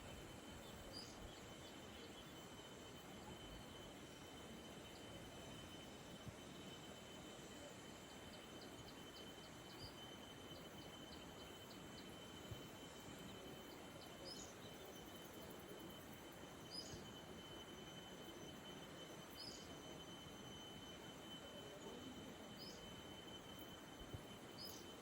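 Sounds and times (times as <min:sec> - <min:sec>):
thin steady high tone: 0:00.0 - 0:25.0.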